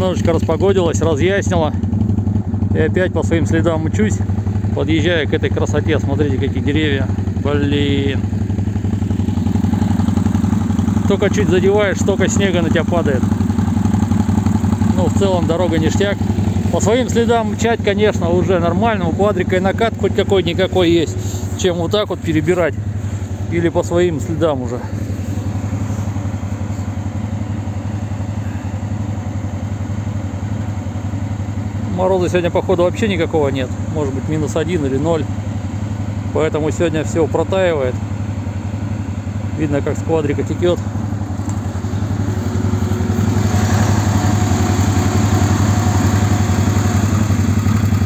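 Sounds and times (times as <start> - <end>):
quad bike engine idling: 0.0 - 48.0.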